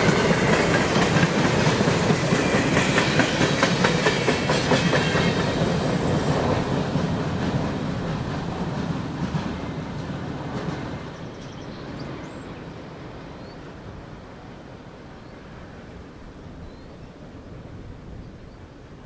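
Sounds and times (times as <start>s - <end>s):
train rumble and wheel noise: 0.0s - 19.0s.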